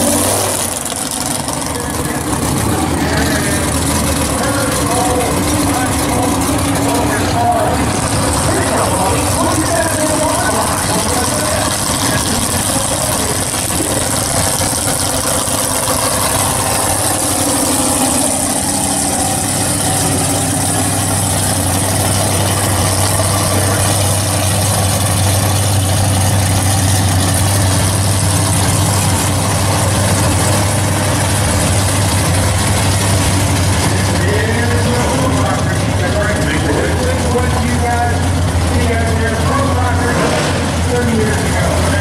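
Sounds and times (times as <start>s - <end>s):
deep steady drone: 0.0s - 42.0s
drag racing car engines idling: 0.0s - 42.0s.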